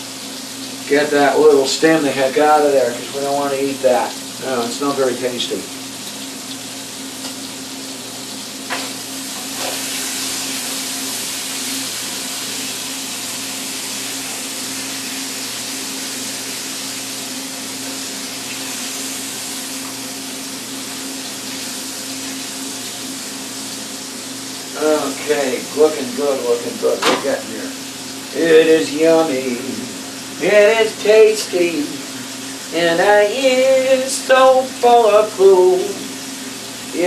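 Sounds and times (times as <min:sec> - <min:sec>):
food sizzling in a pan: 0:00.0 - 0:37.0
kitchen exhaust fan humming: 0:00.0 - 0:37.0.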